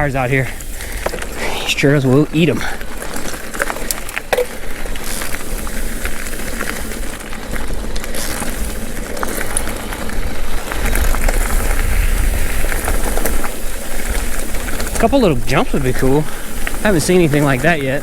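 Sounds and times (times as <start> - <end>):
bike clicks and rattles: 0.0 - 18.0
bike tyres rolling on dirt: 0.0 - 18.0
wind buffeting microphone: 0.0 - 18.0.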